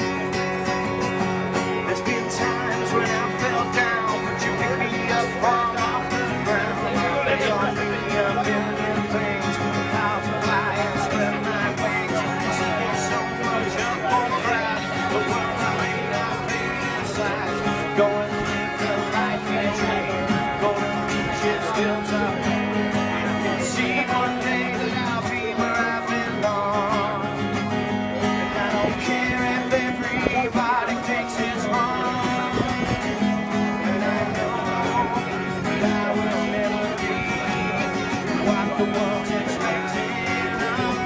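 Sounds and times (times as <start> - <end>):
acoustic guitar strumming: 0.0 - 41.0
person singing: 0.0 - 41.0.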